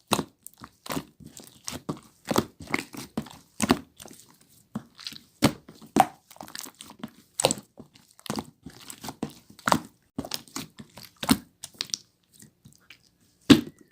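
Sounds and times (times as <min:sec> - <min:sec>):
slime crackling: 0:00.0 - 0:13.6.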